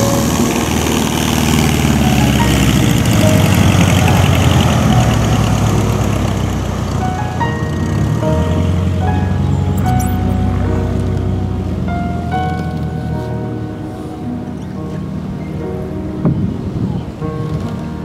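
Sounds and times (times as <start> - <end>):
floatplane engine and propeller: 0.0 - 18.0.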